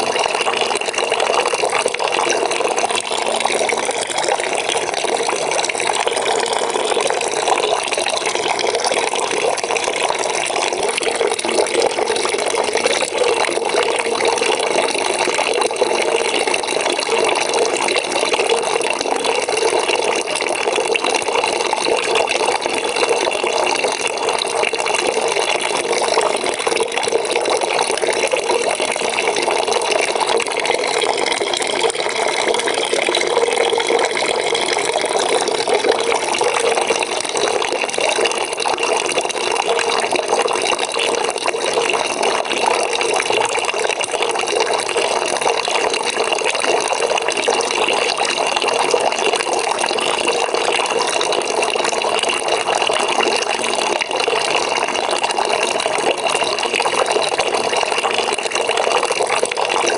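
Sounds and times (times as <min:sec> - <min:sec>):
tap water filling a bucket: 0:00.0 - 0:59.9.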